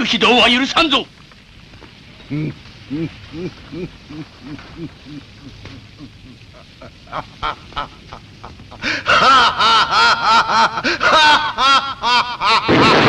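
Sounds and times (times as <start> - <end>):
man laughing: 2.3 - 13.0.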